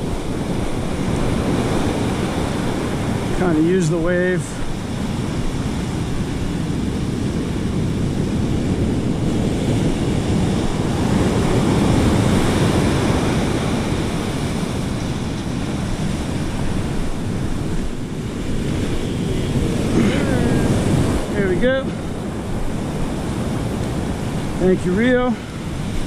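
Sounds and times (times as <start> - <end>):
ocean surf washing over sand: 0.0 - 26.0
wind buffeting microphone: 0.0 - 26.0.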